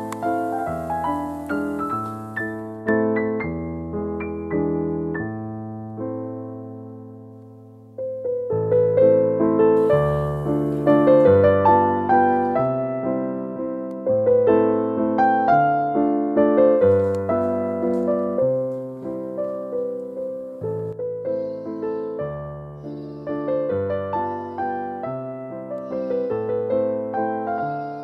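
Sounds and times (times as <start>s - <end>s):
solo piano music: 0.0s - 28.0s.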